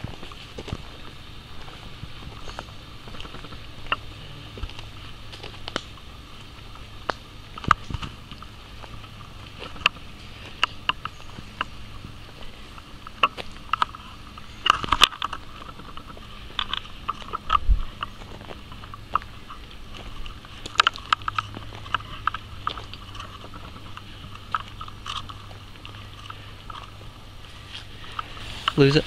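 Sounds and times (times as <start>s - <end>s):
footsteps on gravel: 0.0s - 29.0s.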